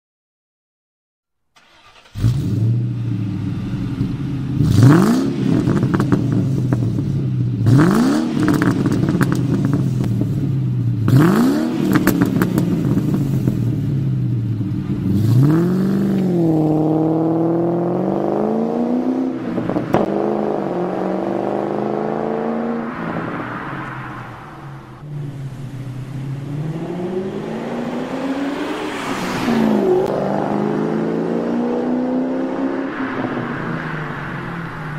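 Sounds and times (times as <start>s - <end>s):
car engine idling and revving: 1.6s - 34.9s.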